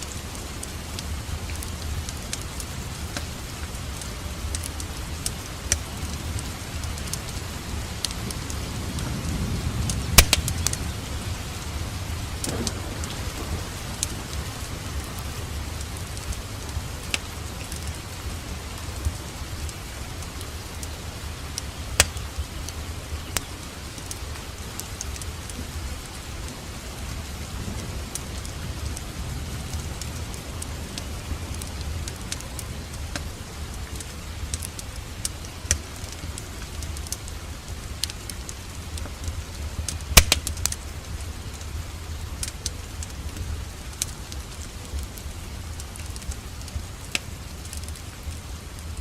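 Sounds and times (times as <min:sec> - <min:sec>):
steady rain: 0:00.0 - 0:49.0
wood fire crackling: 0:00.0 - 0:49.0.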